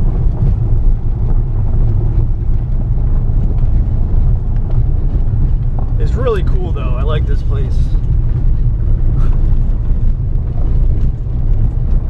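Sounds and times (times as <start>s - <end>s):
car rumbling on dirt road: 0.0s - 12.0s.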